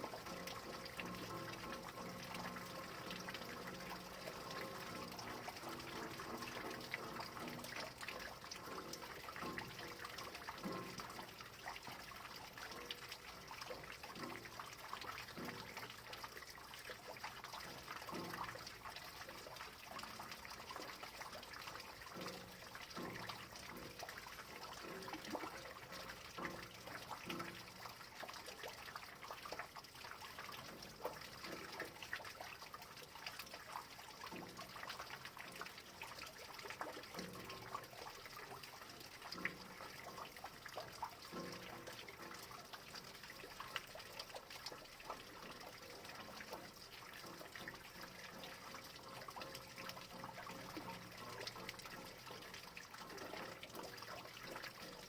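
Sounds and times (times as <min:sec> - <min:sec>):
rain falling steadily: 0:00.0 - 0:55.0
trickle of running water: 0:00.0 - 0:55.0
water dripping: 0:00.0 - 0:55.0.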